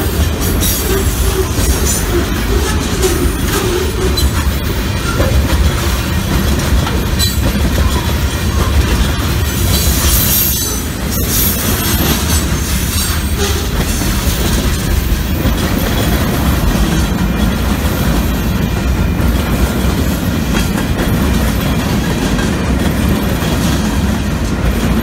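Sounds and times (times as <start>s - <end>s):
rail joint clicks and clatter: 0.0s - 25.0s
train wheels rumbling on rails: 0.0s - 25.0s.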